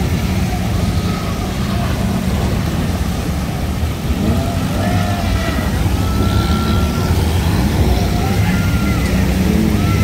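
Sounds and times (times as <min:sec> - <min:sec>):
jeep engines running: 0:00.0 - 0:10.0
water splashing: 0:00.0 - 0:10.0.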